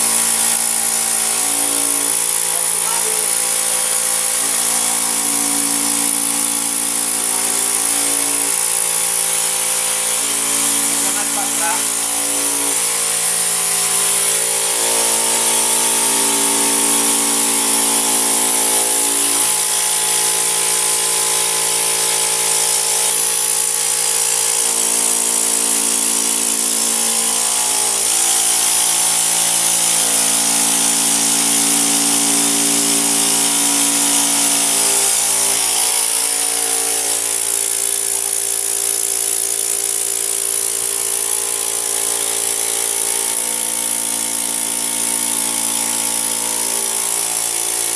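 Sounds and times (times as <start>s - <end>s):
vacuum cleaner whining: 0.0s - 47.9s.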